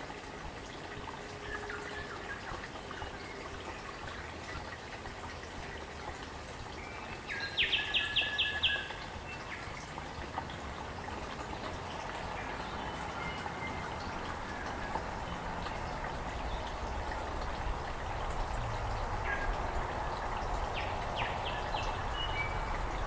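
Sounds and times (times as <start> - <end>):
stream running: 0.0 - 23.0.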